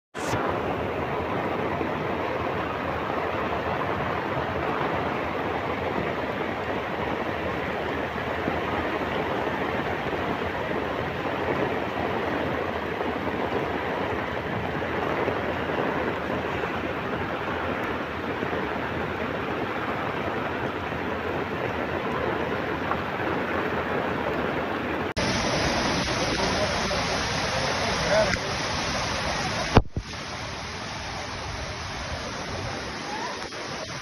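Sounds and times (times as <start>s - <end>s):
heavy rain falling: 0.2s - 34.0s.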